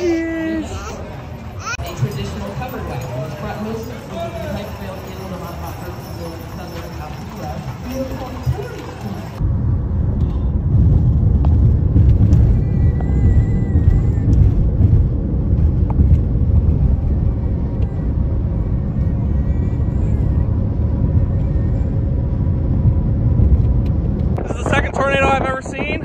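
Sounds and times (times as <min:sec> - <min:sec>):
car road and wind rumble: 0:00.0 - 0:26.0.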